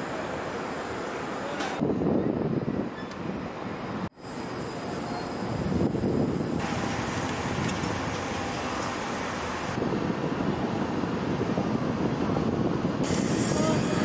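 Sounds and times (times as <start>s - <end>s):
rumbling outdoor background noise: 0.0s - 14.0s.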